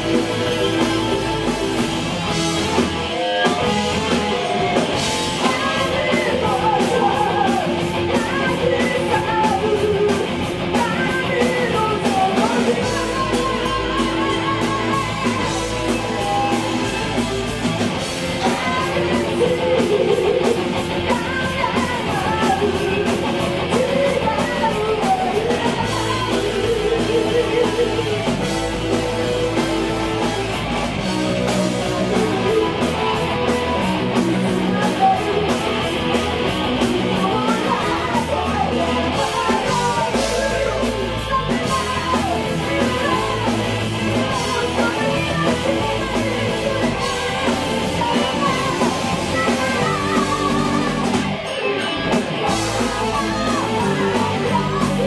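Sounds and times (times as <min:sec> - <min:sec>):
live rock band: 0:00.0 - 0:55.0
woman singing: 0:03.0 - 0:17.3, 0:18.2 - 0:55.0.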